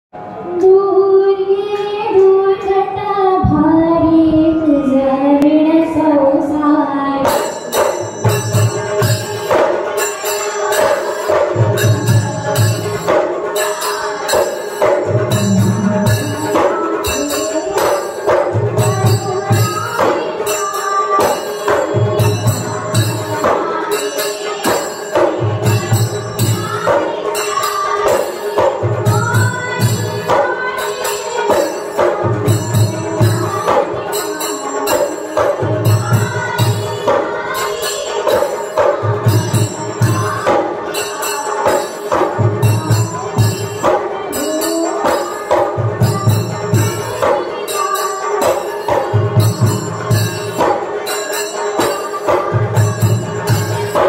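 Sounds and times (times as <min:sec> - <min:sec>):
woman singing: 0:00.4 - 0:54.0
hand cymbals clashing: 0:07.2 - 0:54.0
clay-pot drums beating: 0:07.3 - 0:54.0.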